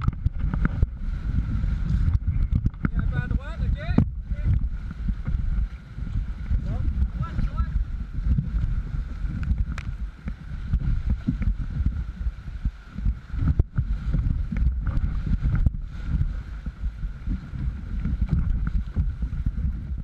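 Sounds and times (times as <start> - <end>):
paddle strokes: 0.0 - 20.0
rushing churning water: 0.0 - 20.0
wind rumble on microphone: 0.0 - 20.0.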